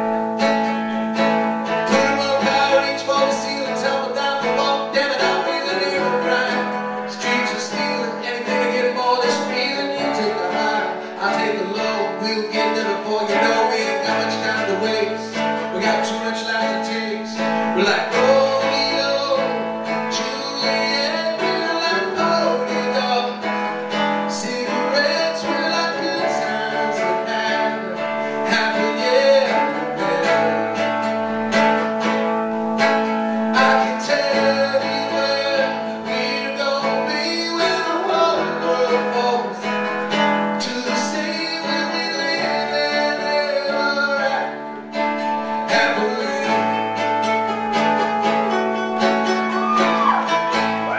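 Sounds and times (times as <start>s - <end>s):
acoustic guitar strumming: 0.0s - 50.9s
man singing: 0.0s - 50.9s.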